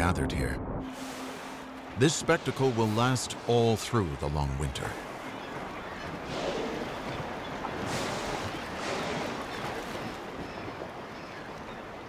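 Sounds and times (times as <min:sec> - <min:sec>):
water splashing and washing: 0:00.9 - 0:12.0.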